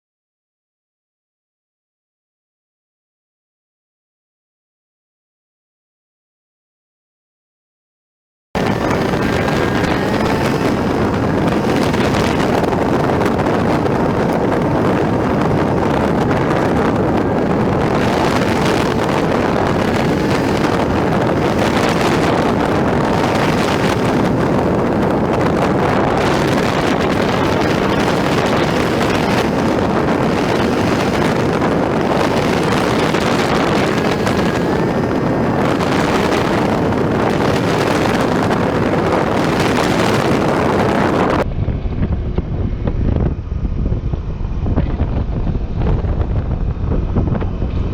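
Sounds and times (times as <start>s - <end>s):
scooter engine droning: 8.6s - 47.9s
wind buffeting microphone: 8.6s - 47.9s.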